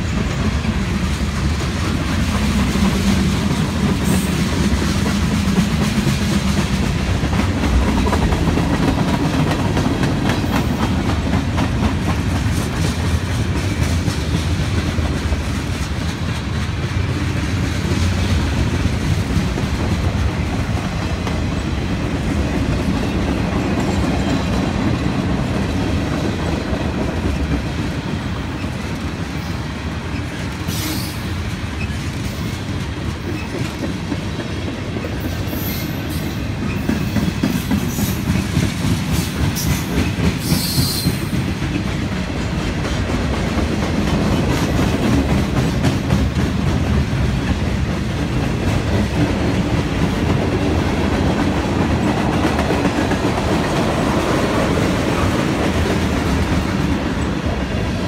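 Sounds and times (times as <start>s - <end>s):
clickety-clack over rail joints: 0.0s - 58.0s
freight train wheels rumbling: 0.0s - 58.0s.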